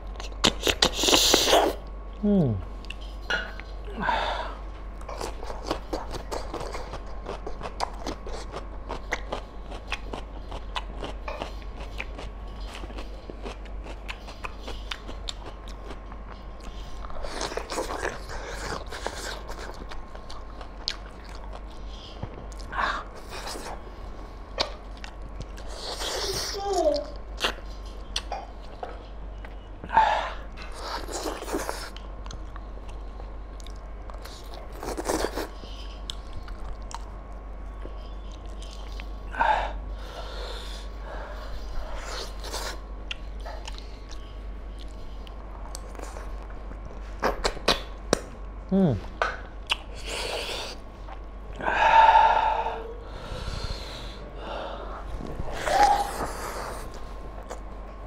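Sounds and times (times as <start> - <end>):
man chewing food: 0.0 - 2.2, 2.8 - 3.9, 4.6 - 58.0.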